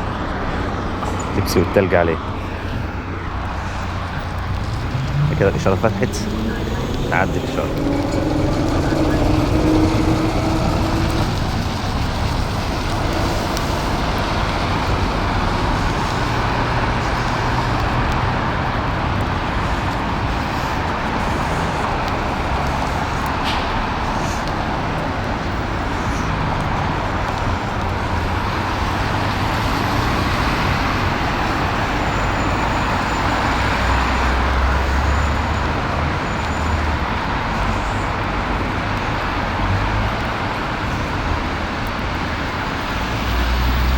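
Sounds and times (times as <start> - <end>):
low traffic rumble: 0.0 - 43.9
passing cars: 0.0 - 43.9.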